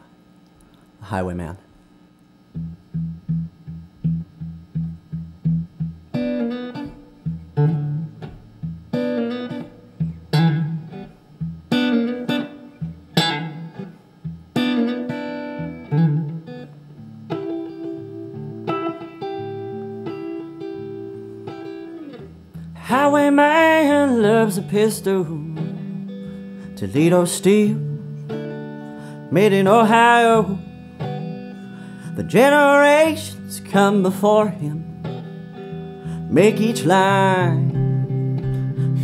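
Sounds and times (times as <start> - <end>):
electric guitar playing: 2.4 - 39.0.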